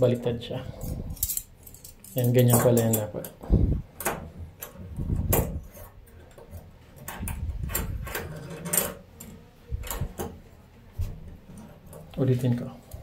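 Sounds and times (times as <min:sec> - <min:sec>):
rubbing and handling noise: 0:00.0 - 0:13.0.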